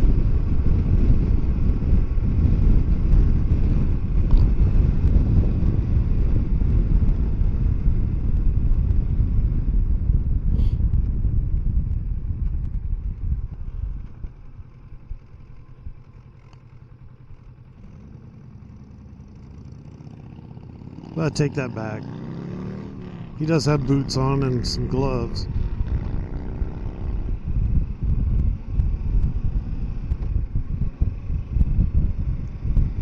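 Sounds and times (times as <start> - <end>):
wind noise: 0.0 - 16.1, 21.4 - 33.0
motorcycle engine: 0.0 - 33.0.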